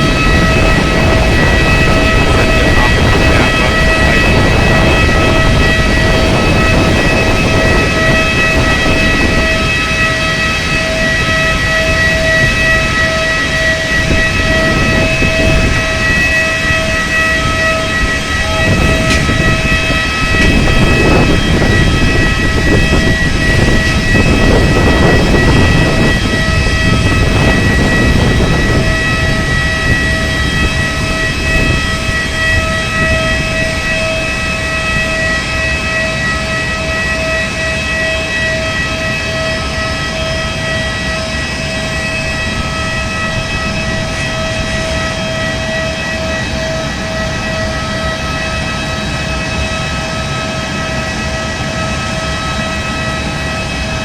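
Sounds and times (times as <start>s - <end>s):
jet engine whine and rumble: 0.0s - 54.0s.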